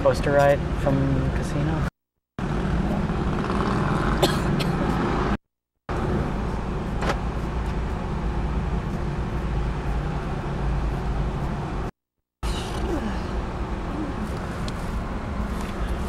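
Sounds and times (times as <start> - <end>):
car engine rumble: 0.0 - 16.0
traffic: 0.0 - 16.0.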